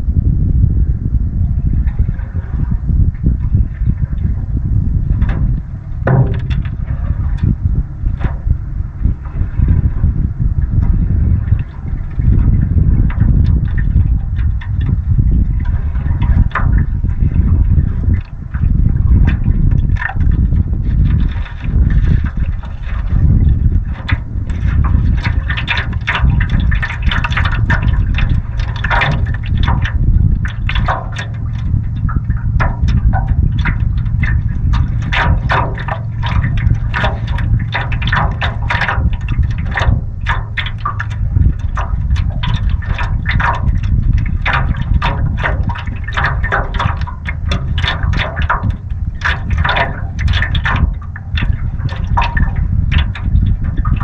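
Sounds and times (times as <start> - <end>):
wind rumble on microphone: 0.0 - 54.0
waves lapping against canoe: 1.5 - 54.0.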